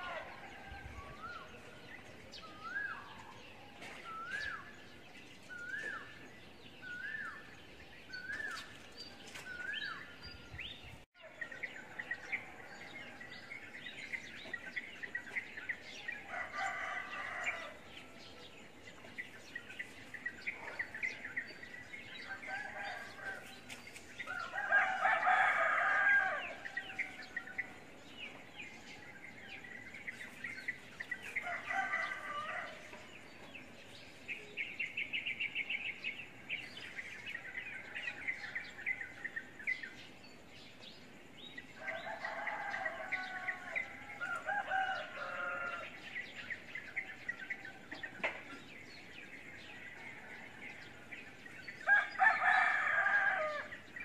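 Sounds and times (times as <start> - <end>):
birds chirping and chattering: 0.0 - 54.0.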